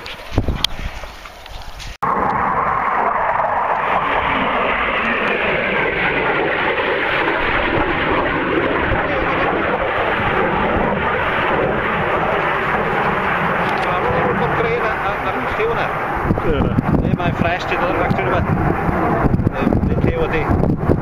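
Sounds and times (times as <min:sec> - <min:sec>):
fighter jet flying past: 0:02.0 - 0:21.0.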